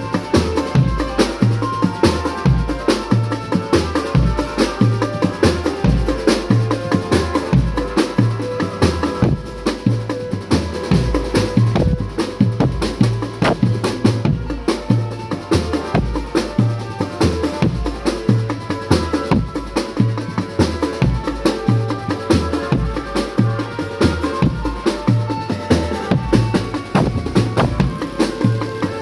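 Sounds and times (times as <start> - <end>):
melody over drums: 0.0 - 29.0
snare and bass drums: 0.0 - 29.0.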